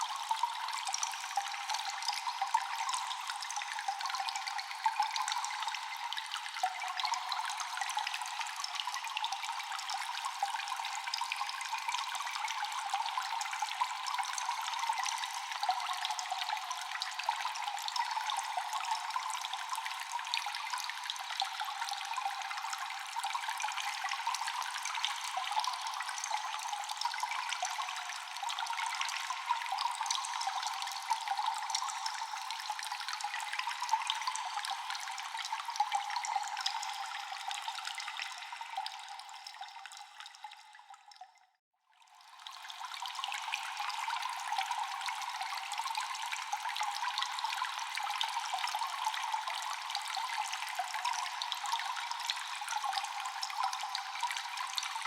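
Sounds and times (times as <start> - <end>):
echoing water drops in cave: 0.0 - 55.0.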